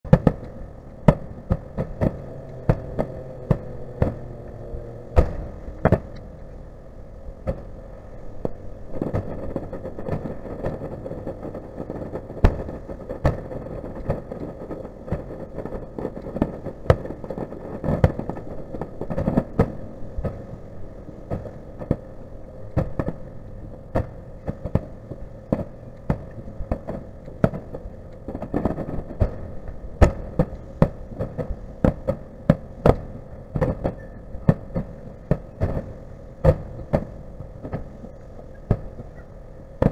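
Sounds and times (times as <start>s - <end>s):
fireworks bursting: 0.0s - 39.9s
steady hum: 0.1s - 39.9s.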